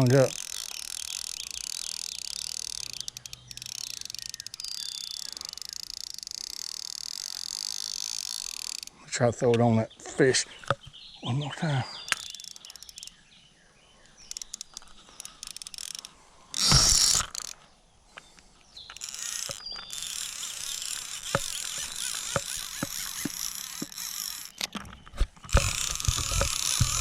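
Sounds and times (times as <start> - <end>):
fishing reel whirring and ticking: 0.0 - 9.5, 12.0 - 13.2, 14.2 - 17.6, 18.8 - 27.0.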